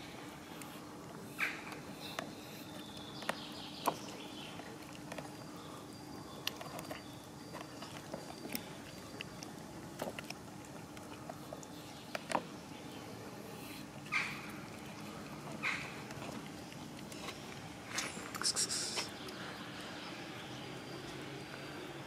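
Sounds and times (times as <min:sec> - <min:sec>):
cats chewing food: 0:00.0 - 0:22.0.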